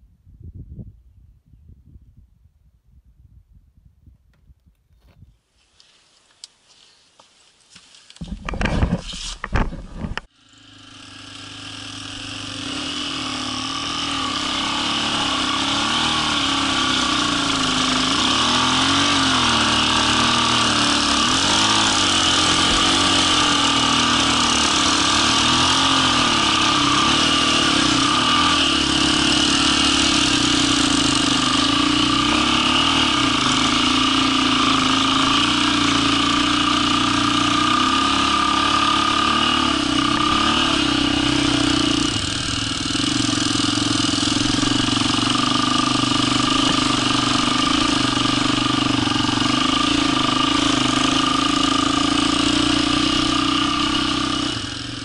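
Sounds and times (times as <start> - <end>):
dirt bike engine: 7.8 - 55.0.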